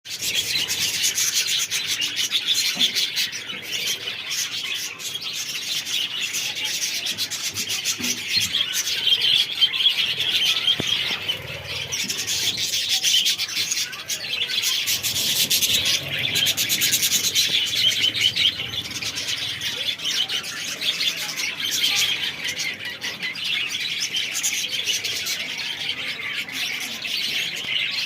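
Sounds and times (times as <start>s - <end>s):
budgerigars chattering and chirping: 0.1s - 28.0s.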